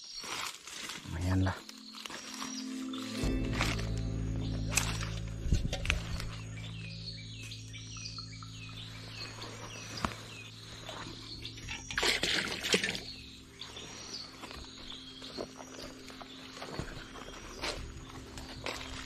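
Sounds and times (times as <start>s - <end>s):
low steady hum: 2.6s - 19.0s.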